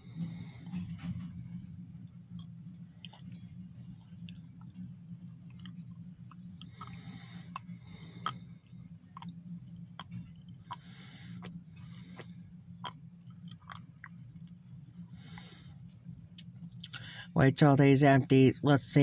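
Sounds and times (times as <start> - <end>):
low hum inside car: 0.0 - 19.0.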